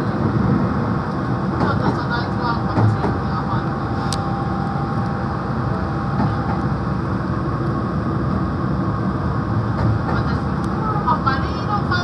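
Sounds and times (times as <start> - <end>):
electric train running noise: 0.0 - 12.0.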